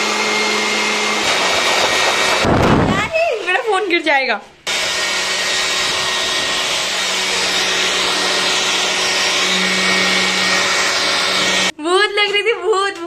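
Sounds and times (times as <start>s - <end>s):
electric air blower: 0.0s - 3.6s, 4.6s - 11.7s.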